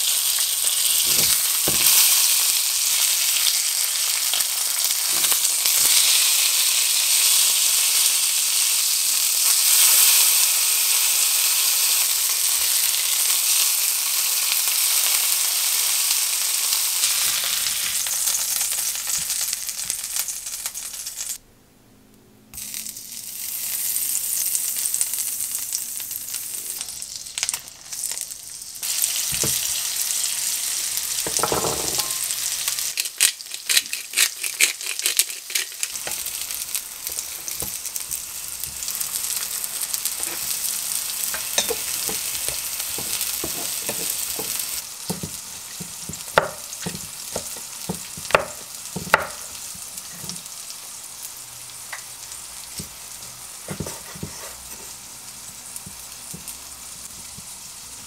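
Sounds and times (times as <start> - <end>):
food sizzling in a frying pan: 0.0 - 21.4, 22.6 - 58.0.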